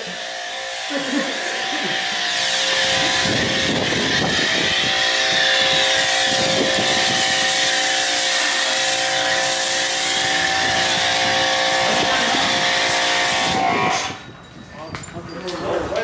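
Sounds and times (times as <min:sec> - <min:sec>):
water and foam spraying: 0:00.0 - 0:14.1
pressure washer motor humming: 0:00.0 - 0:14.2.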